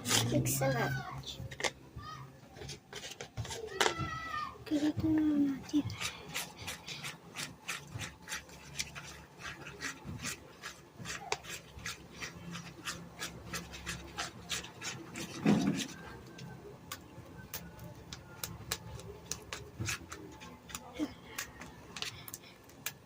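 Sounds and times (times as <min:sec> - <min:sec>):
slime being stirred: 0:00.0 - 0:23.0.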